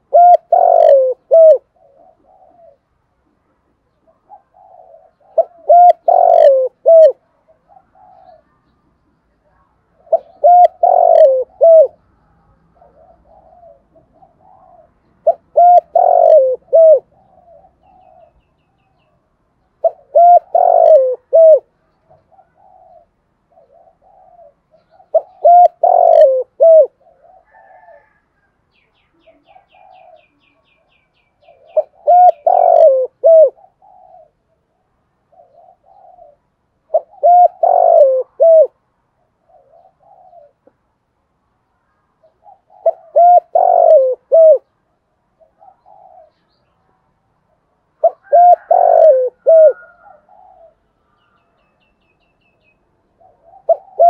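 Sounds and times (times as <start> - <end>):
dove cooing: 0.0 - 8.6, 9.8 - 12.0, 12.7 - 40.8, 42.2 - 46.6, 47.9 - 51.6, 52.6 - 54.0.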